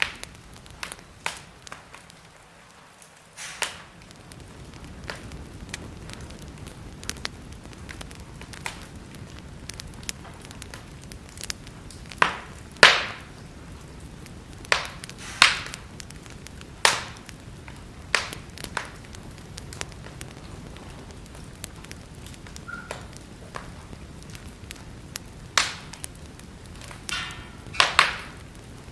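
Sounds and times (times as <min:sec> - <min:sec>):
sharp pops of fire: 0:00.0 - 0:28.9
wood fire crackling: 0:00.0 - 0:28.9.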